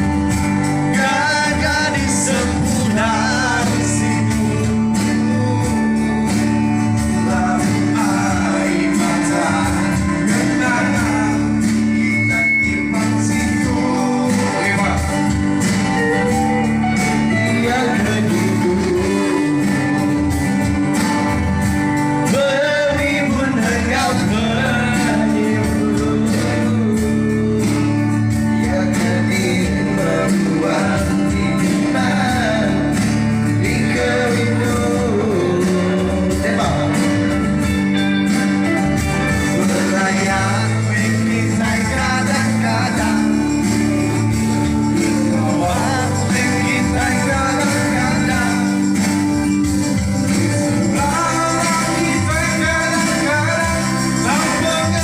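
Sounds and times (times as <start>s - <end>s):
band accompaniment: 0.0s - 55.0s
person singing: 0.7s - 21.5s, 22.2s - 38.0s, 39.4s - 55.0s.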